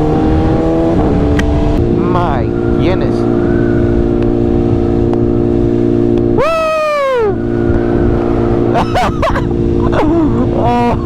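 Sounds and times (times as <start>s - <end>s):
motorcycle engine cruising: 0.0s - 11.0s
wind noise: 0.0s - 11.0s.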